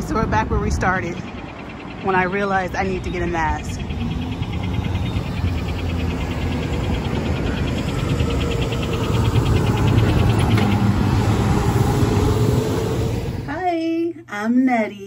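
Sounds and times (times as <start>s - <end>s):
fire engine rumbling: 0.0s - 13.6s
rapid pulsed high chirping: 0.0s - 13.6s
street traffic: 0.0s - 13.8s.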